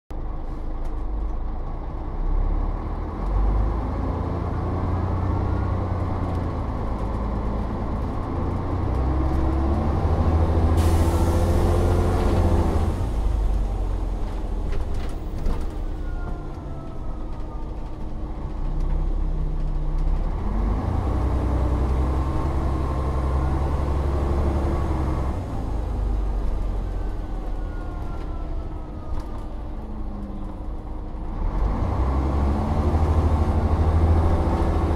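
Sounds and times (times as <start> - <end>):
bus engine accelerating: 0.2 - 34.9.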